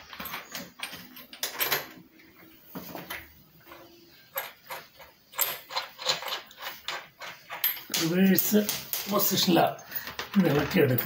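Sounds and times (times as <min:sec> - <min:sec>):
small parts clicking and knocking: 0:00.0 - 0:11.0.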